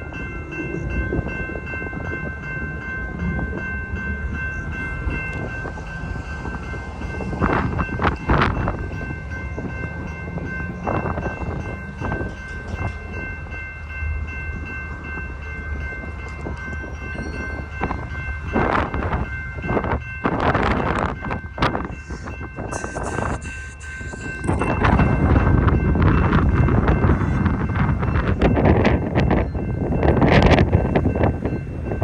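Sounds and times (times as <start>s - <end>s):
steady high-pitched tone: 0.0s - 32.0s
train rolling past rumbling: 0.0s - 32.0s
wind buffeting microphone: 0.0s - 32.0s.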